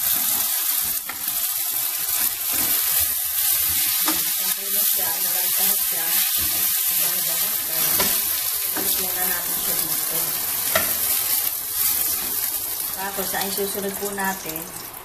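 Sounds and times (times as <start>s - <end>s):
peppers sizzling in hot oil: 0.0s - 15.0s.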